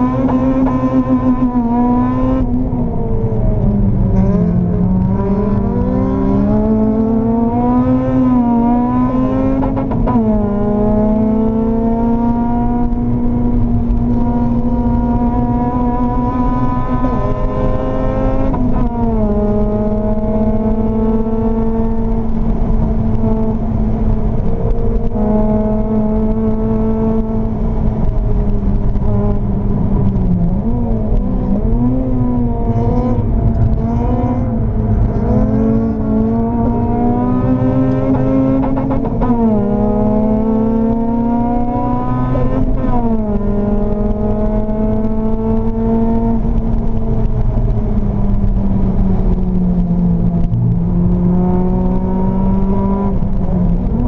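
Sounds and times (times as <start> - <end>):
car engine at speed: 0.0 - 54.0.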